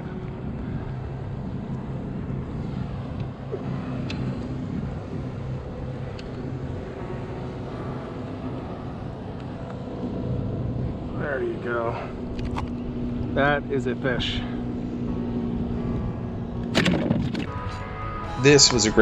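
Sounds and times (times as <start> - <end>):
low engine drone: 0.0 - 19.0
outdoor noise: 0.0 - 19.0.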